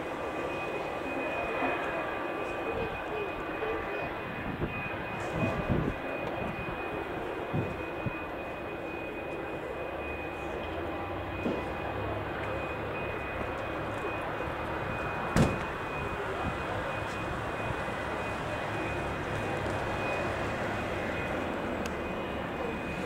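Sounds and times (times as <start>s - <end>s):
jet engines rumbling with whine: 0.0s - 23.0s.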